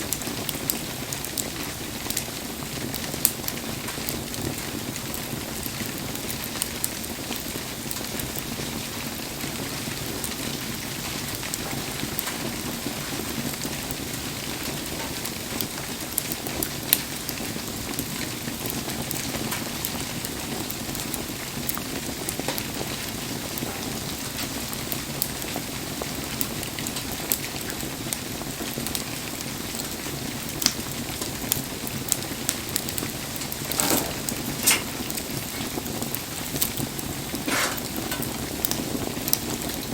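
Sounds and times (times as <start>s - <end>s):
campfire popping and ticking: 0.0s - 39.9s
steady rain: 0.0s - 39.9s.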